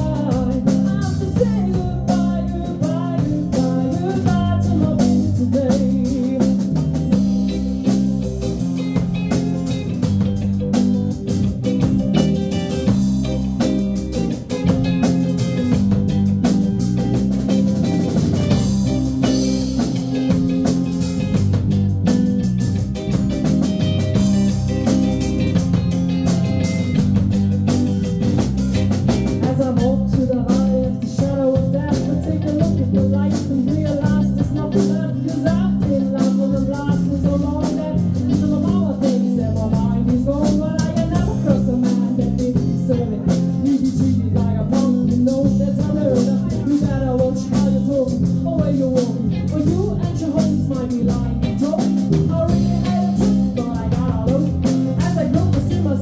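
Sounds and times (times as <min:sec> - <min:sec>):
drum kit beat: 0:00.0 - 0:56.0
electric guitar: 0:00.0 - 0:56.0.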